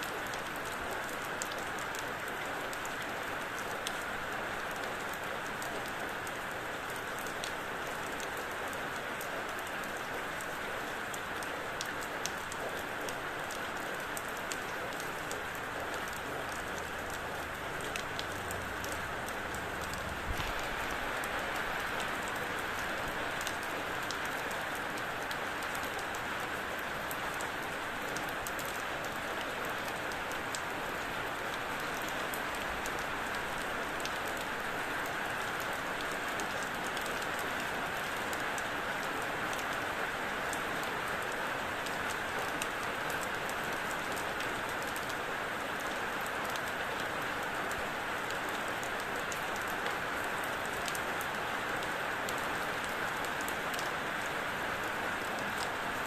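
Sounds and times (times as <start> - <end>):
steady rain with drop ticks: 0.0 - 56.0.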